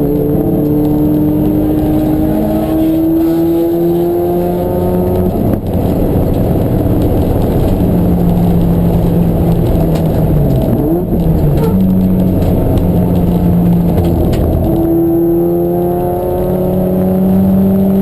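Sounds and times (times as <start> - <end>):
racing car engine running hard: 0.0 - 18.0.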